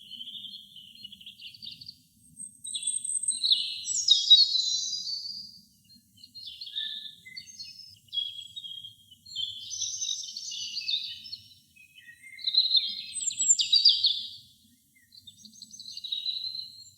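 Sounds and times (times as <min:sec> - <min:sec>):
robin singing: 0:00.0 - 0:16.9.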